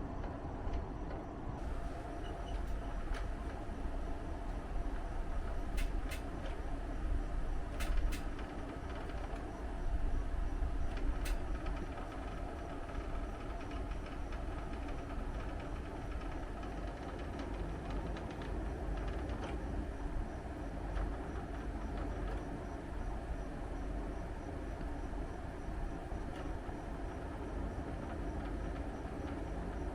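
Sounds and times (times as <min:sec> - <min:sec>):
air conditioner running: 0:00.0 - 0:29.9.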